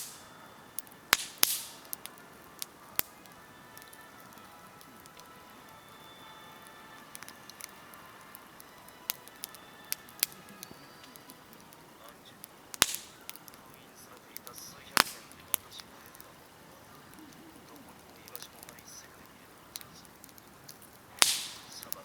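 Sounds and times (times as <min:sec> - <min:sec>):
loud wood snaps: 0:00.0 - 0:05.7, 0:06.7 - 0:22.0
campfire crackling and popping: 0:00.0 - 0:22.0
low hiss: 0:00.0 - 0:22.0.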